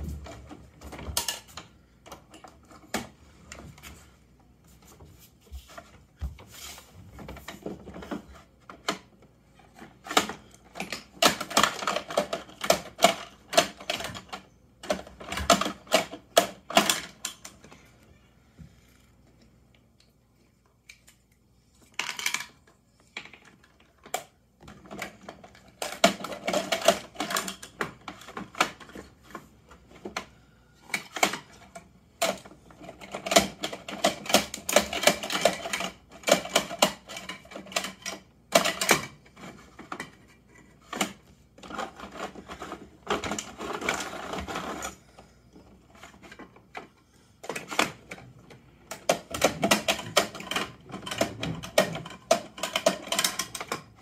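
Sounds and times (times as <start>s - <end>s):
plastic toys clattering and clicking: 0.0s - 4.1s, 7.2s - 18.0s, 20.8s - 54.0s.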